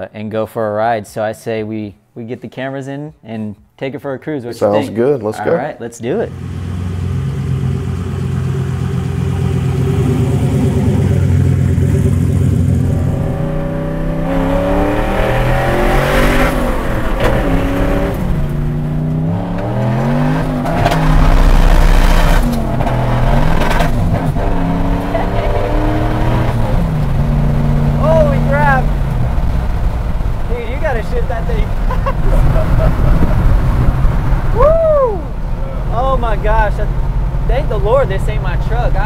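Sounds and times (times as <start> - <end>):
truck engine idling and accelerating: 6.2 - 39.0.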